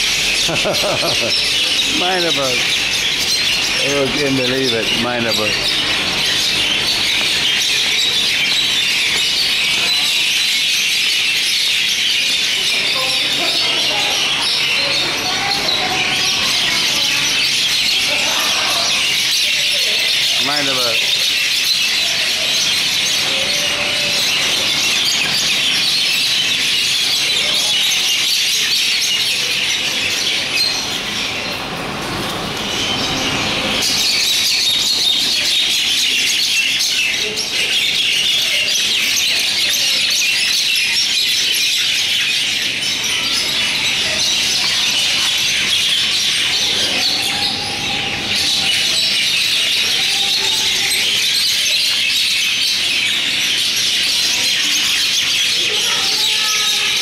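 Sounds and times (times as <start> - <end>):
mynas chattering: 0.0 - 57.0.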